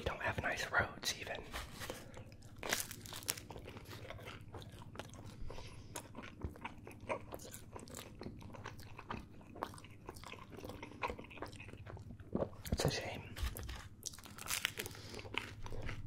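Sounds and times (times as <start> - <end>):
person chewing pizza: 0.0 - 16.0.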